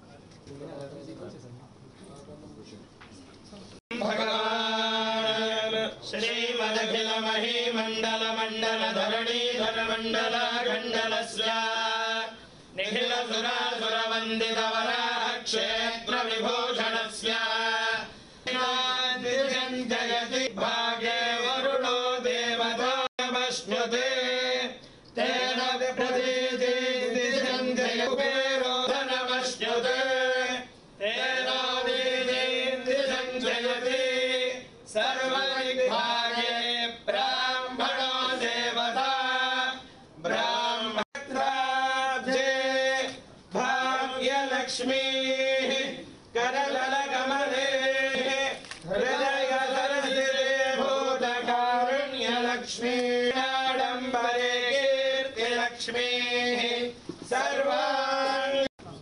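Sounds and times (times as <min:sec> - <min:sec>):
men chanting: 0:03.9 - 0:58.7.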